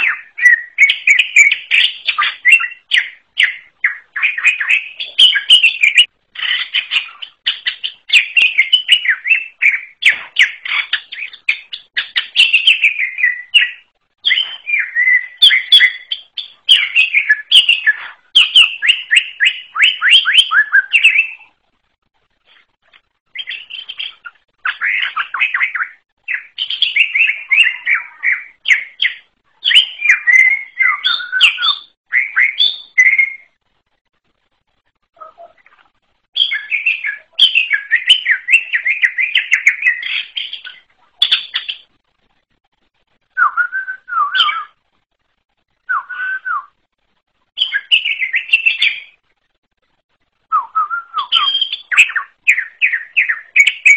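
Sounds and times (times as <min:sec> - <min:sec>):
bird singing rapid chirps: 0:00.0 - 0:21.6, 0:23.3 - 0:33.6, 0:36.3 - 0:42.0, 0:43.2 - 0:44.8, 0:47.6 - 0:49.2, 0:50.5 - 0:53.9.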